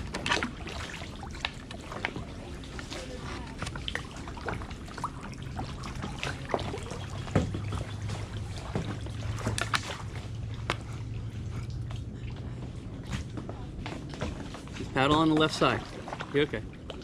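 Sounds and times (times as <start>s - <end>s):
paddle splashing in water: 0.0s - 17.0s
steady low hum: 0.0s - 17.0s.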